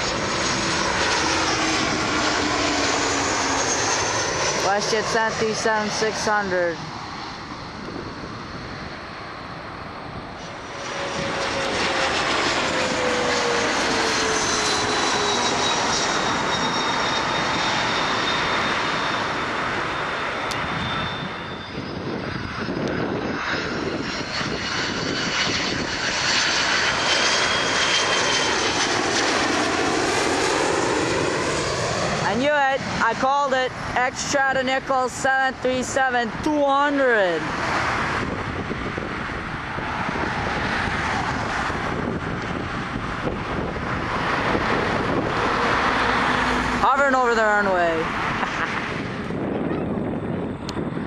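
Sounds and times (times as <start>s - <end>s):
jet airliner passing: 0.0s - 51.0s.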